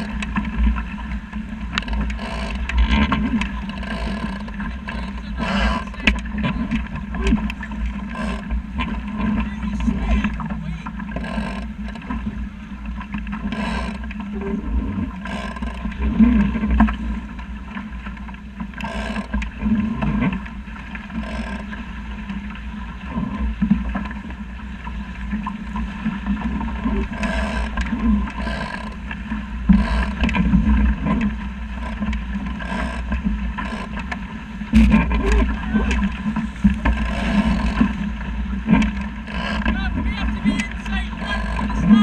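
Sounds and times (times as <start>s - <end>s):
low wind rumble: 0.0s - 42.0s
water splashing against hull: 0.0s - 42.0s.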